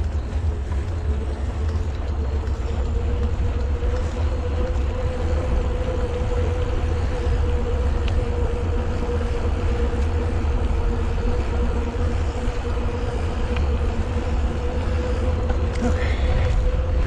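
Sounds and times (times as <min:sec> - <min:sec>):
bicycle tyres rumbling on pavement: 0:00.0 - 0:17.0
steady hum: 0:00.0 - 0:17.0
wind on microphone: 0:00.0 - 0:17.0.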